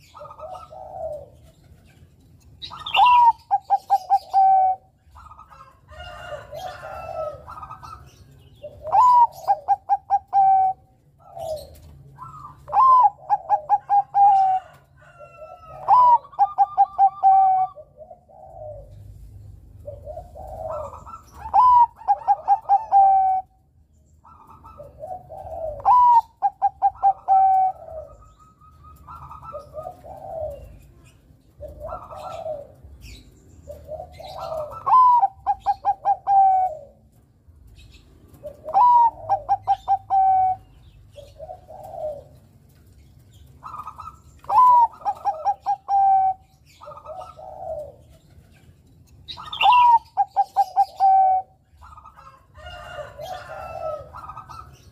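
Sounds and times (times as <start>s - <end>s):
dove cooing song: 0.0s - 54.9s.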